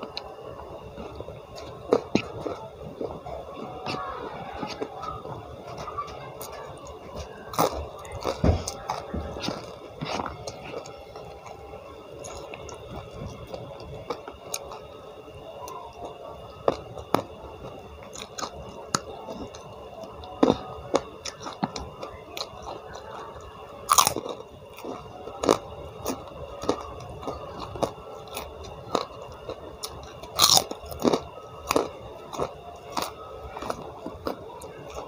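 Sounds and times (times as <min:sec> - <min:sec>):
person chewing crunchy food: 0:00.0 - 0:15.0, 0:15.7 - 0:35.0.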